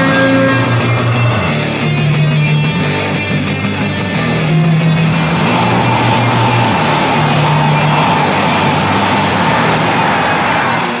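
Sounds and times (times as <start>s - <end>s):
steady whine: 0.0s - 11.0s
train rushing roar: 0.0s - 11.0s.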